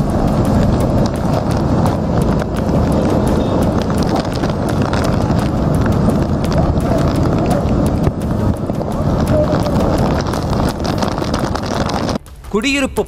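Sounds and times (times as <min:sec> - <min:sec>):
rushing floodwater: 0:00.0 - 0:12.6
rain patter and splashes: 0:00.0 - 0:13.0.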